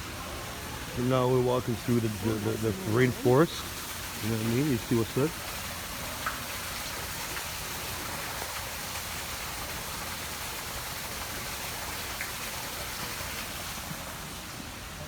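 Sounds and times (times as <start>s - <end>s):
rushing water hiss: 0.0s - 15.0s.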